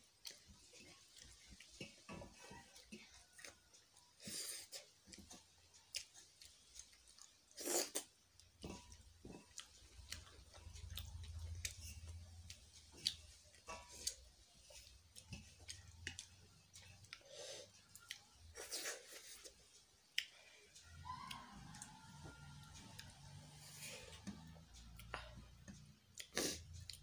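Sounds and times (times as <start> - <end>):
soft chewing: 0.0 - 27.0.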